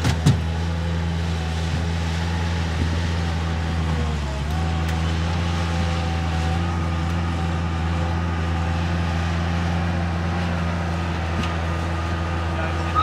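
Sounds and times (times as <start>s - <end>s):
loader diesel engine running: 0.0s - 13.0s.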